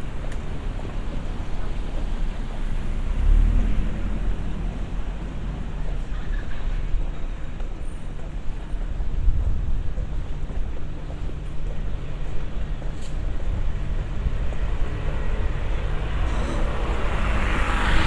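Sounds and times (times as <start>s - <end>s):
rumble of passing traffic: 0.0s - 18.0s.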